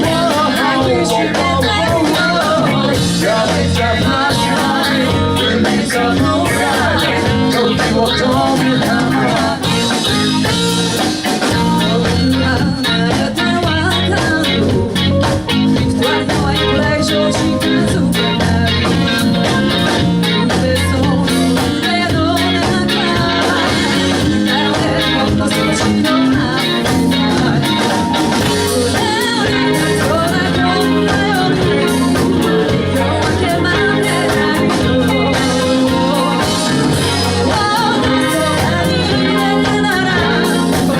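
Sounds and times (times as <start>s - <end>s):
guitar: 0.0s - 40.9s
steady drum beat: 0.0s - 40.9s
sung vocals: 0.0s - 40.9s.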